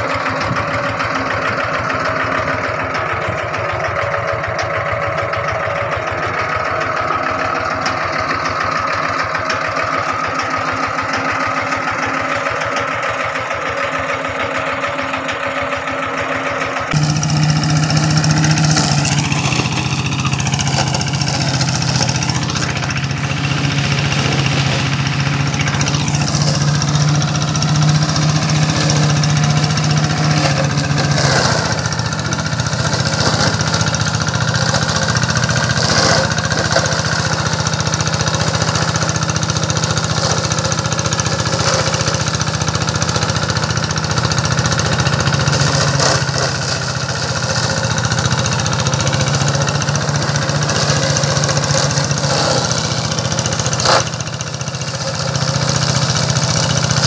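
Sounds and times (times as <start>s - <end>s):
machine engine humming: 0.0s - 57.0s.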